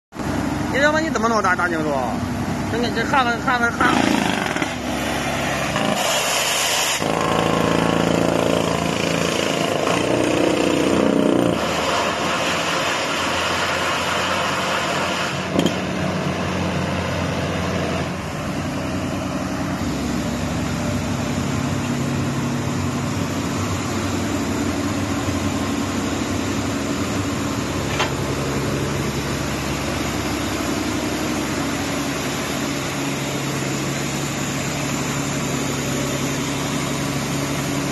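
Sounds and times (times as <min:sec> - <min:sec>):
diesel engine running: 0:00.1 - 0:37.9
loud rushing noise: 0:03.7 - 0:37.9.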